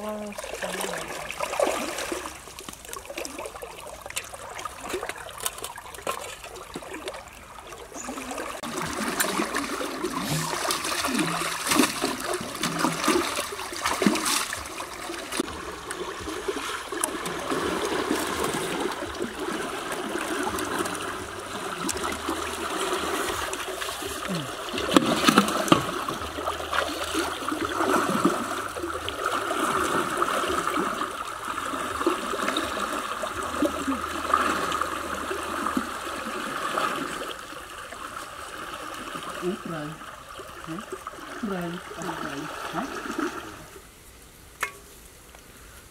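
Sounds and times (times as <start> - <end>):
water sloshing and splashing: 0.0 - 45.3
people wading through water: 0.0 - 45.9.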